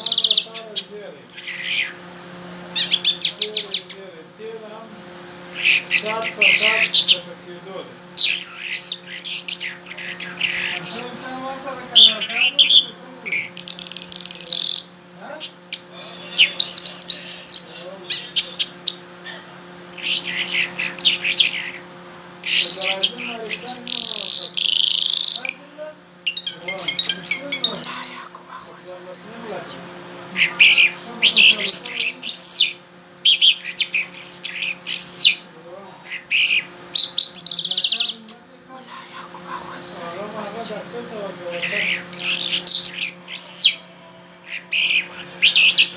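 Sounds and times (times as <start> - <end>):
songbird singing: 0.0 - 2.1, 2.7 - 4.0, 5.5 - 7.3, 8.2 - 11.3, 11.9 - 28.6, 30.4 - 38.4, 41.5 - 45.9
steady low hum: 0.0 - 45.9.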